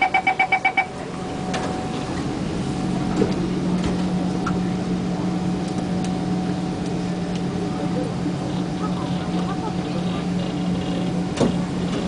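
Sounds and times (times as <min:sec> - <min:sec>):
train carriage rumble: 0:00.0 - 0:12.0
train traction motor hum: 0:00.0 - 0:12.0.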